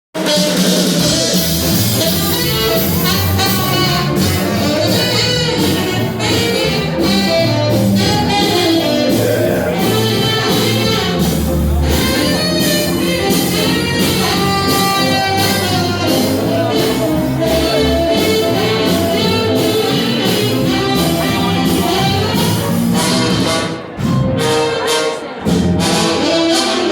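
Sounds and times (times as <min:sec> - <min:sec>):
jazz band music: 0:00.2 - 0:26.9.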